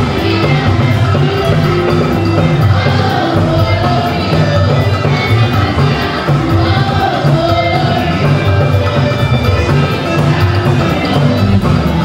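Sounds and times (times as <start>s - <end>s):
children's choir singing: 0.0s - 12.0s
live band playing: 0.0s - 12.0s
repeating bass line: 0.0s - 12.0s.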